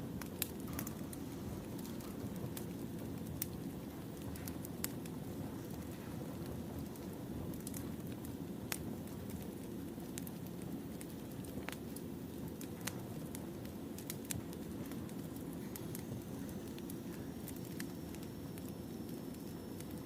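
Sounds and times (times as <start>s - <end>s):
campfire crackling: 0.0s - 20.0s
low rush of flame: 0.0s - 20.0s.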